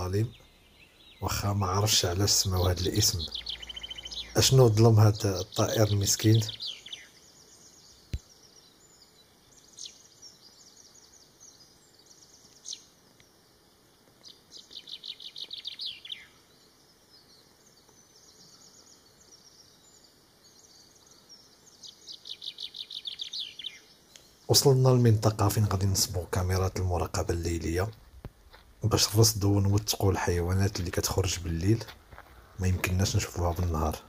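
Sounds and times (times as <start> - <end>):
chaffinch singing: 0.0 - 34.0.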